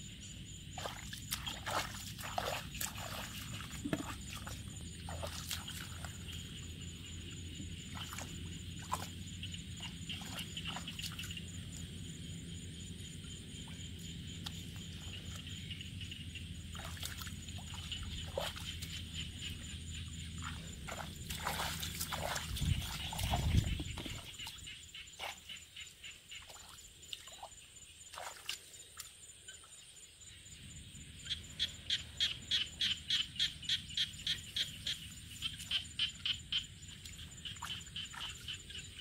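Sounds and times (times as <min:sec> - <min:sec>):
splashing in muddy water: 0:00.7 - 0:29.2, 0:34.3 - 0:39.0.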